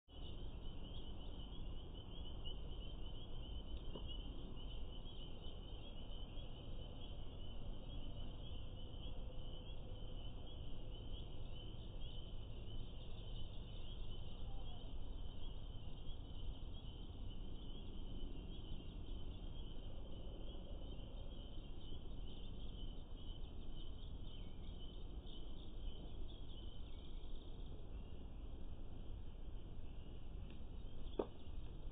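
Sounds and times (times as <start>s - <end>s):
low rumbling background noise: 0.1s - 31.9s.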